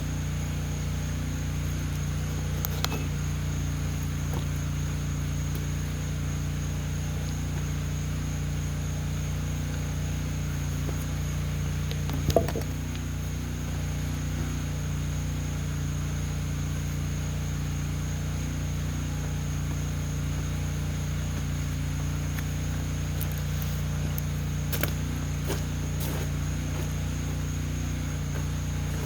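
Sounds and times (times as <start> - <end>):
machine hum: 0.0 - 29.0.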